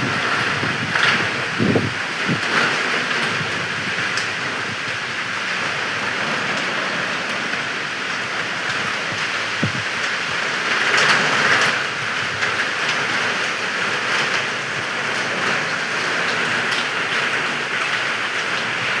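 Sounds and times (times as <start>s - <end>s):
heavy rain in strong wind: 0.0s - 19.0s.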